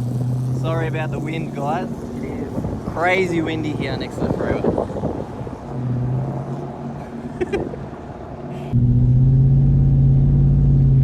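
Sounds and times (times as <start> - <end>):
car engine droning: 0.0 - 11.0
wind: 0.0 - 11.0.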